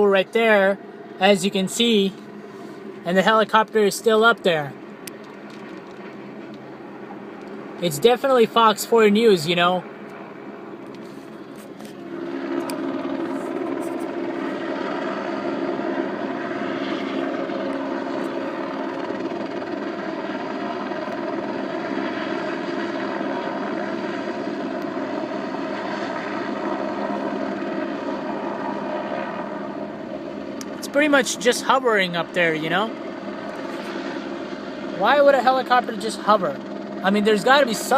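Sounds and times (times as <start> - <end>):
helicopter hovering: 0.0 - 37.9.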